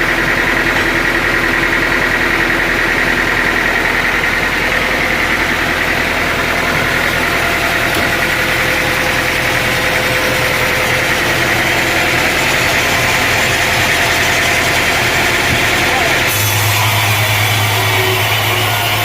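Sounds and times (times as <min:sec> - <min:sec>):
constant high whine: 0:00.0 - 0:19.0
sawmill machinery drone: 0:00.0 - 0:19.0.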